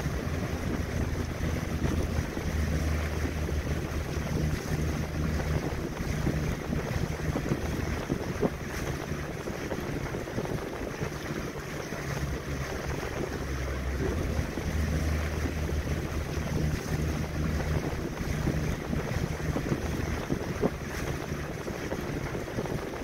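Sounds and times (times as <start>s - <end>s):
outboard motor humming: 0.0s - 23.0s
water rushing against hull: 0.0s - 23.0s
wind on microphone: 0.0s - 23.0s.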